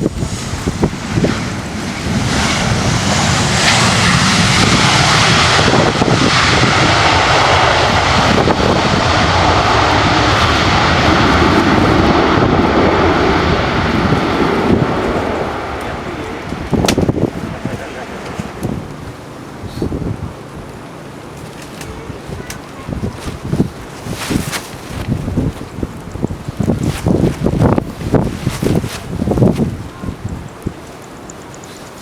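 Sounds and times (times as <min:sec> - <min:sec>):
wind thumps on microphone: 0:00.0 - 0:20.7, 0:21.4 - 0:30.9
jet engines roaring: 0:00.0 - 0:32.0.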